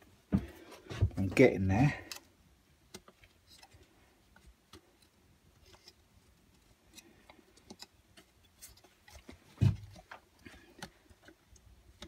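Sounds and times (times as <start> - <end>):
faint clicks and taps: 2.0 - 12.0.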